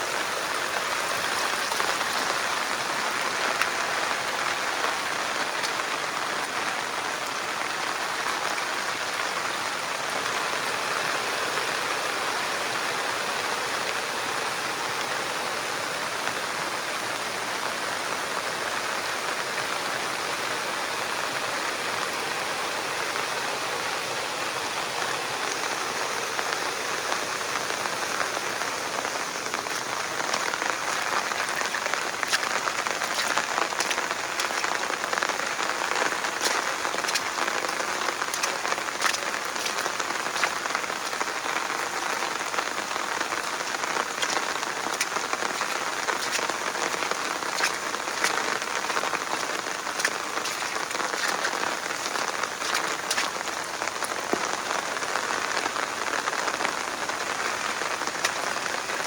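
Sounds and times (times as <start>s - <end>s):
heavy rain falling: 0.0s - 59.0s
sharp raindrops striking nearby: 0.0s - 59.0s.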